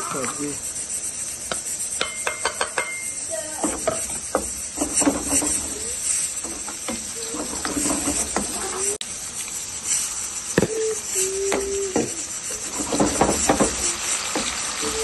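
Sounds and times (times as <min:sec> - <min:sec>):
spatula scraping a pan: 0:00.0 - 0:09.0, 0:09.8 - 0:15.0
onions sizzling in oil: 0:00.0 - 0:15.0.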